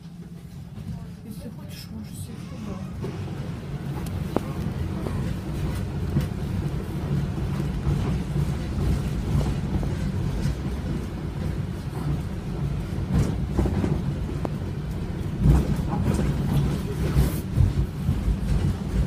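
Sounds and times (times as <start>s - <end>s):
tram rumble: 0.0s - 19.0s.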